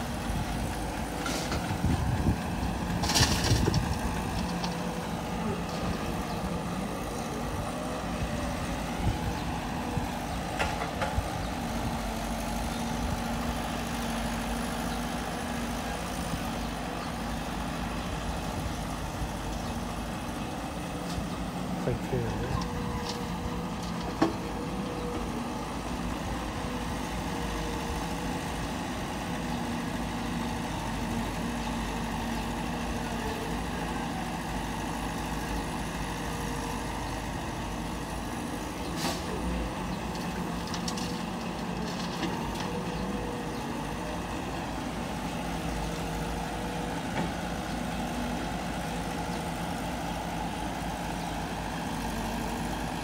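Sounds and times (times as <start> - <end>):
excavator diesel engine running: 0.0 - 53.0
soil loading into dump truck: 0.0 - 53.0.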